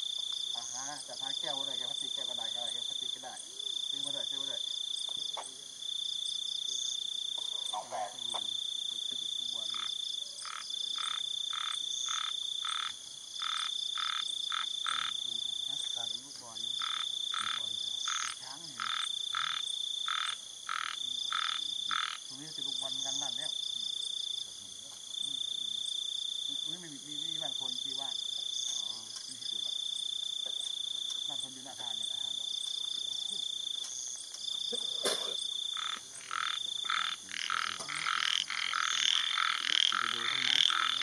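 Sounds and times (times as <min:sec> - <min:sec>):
frogs croaking: 0:00.0 - 0:41.0
insects trilling: 0:00.0 - 0:41.0.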